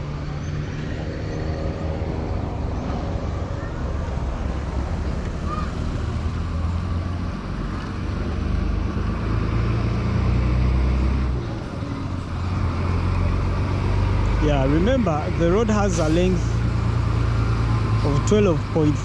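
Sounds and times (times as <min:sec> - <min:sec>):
road noise: 0:00.0 - 0:19.0
vehicle engine humming: 0:00.0 - 0:19.0.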